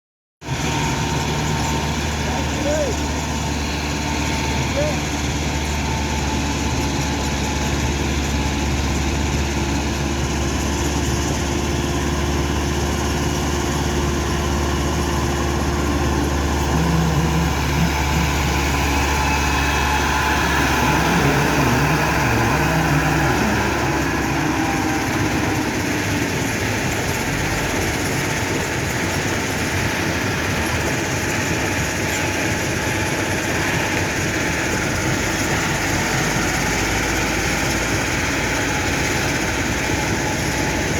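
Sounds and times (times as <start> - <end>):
engine hum wavering: 0.4 - 40.9
stone-crushing machinery drone: 0.5 - 40.9.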